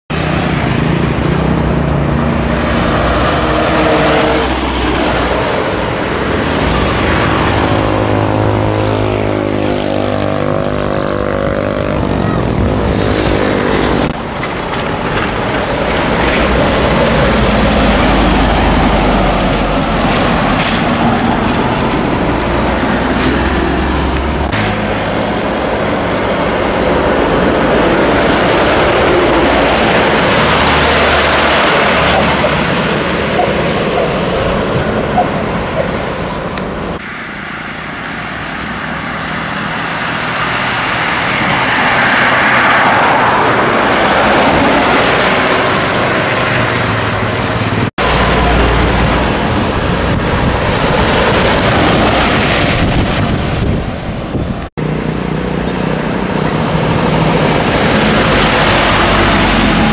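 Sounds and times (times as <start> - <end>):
trucks driving past: 0.1 - 59.9
tyre and traffic noise: 0.1 - 59.9.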